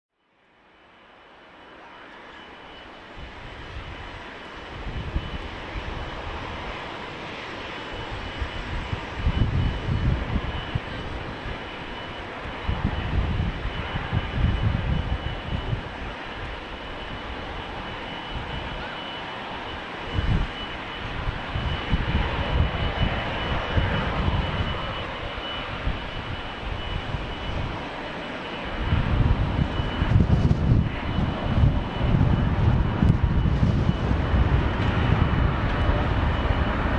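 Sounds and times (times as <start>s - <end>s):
jet engines rushing hiss: 0.6s - 36.9s
wind buffeting microphone: 3.1s - 36.9s.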